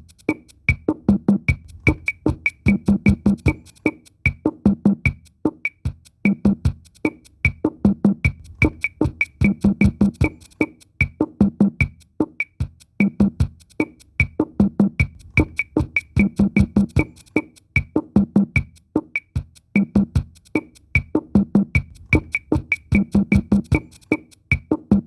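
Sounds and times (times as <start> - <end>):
fast percussion music: 0.0 - 25.0.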